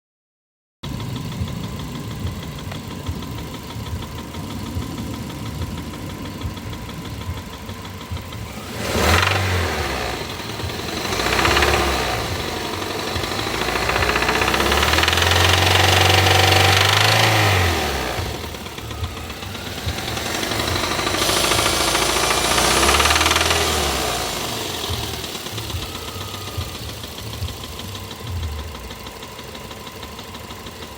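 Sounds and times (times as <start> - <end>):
car engine idling and revving: 0.8 - 30.9
engine knocking: 0.8 - 30.9.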